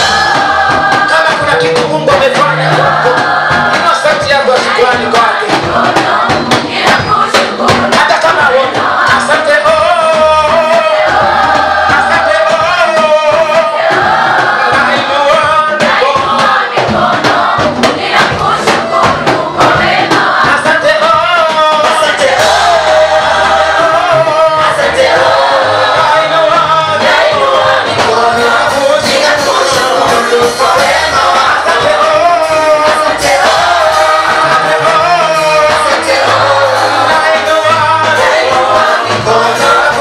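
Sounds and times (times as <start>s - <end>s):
band with bass and drums: 0.0s - 40.0s
group singing worship song: 0.0s - 40.0s.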